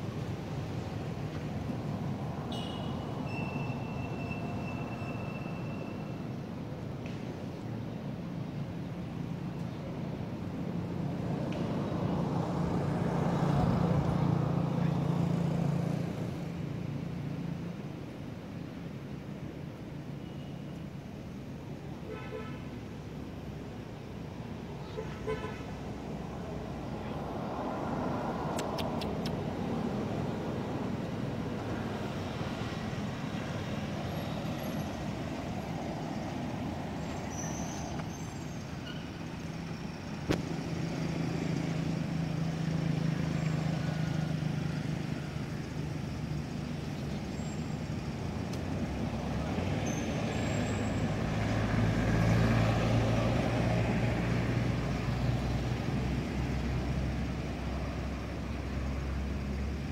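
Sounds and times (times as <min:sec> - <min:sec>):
traffic engine rumble: 0:00.0 - 0:59.9.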